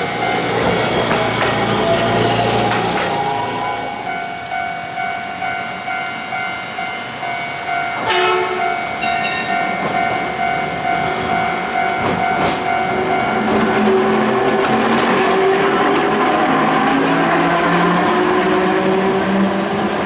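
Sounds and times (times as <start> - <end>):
level-crossing warning bell: 0.0 - 20.0
tram passing: 0.0 - 20.0.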